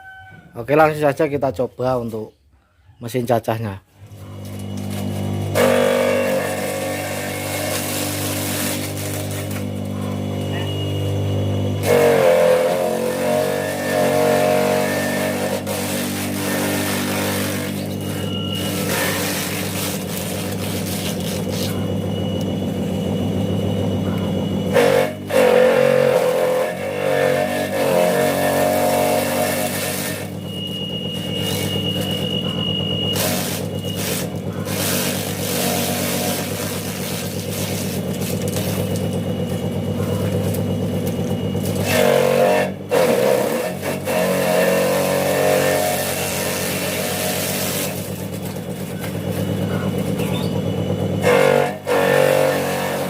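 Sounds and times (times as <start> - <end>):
electric motor chopper humming: 4.0 - 53.0.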